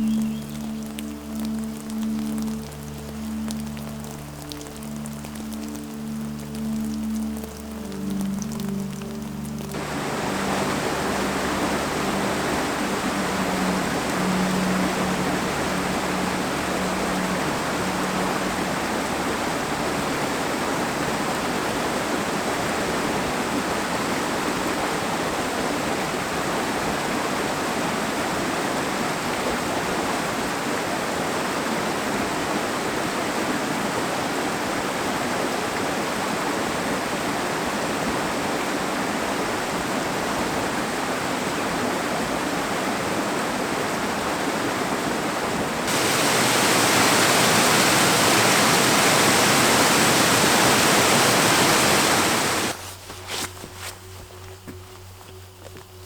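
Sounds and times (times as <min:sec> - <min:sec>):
water rushing: 0:00.0 - 0:52.8.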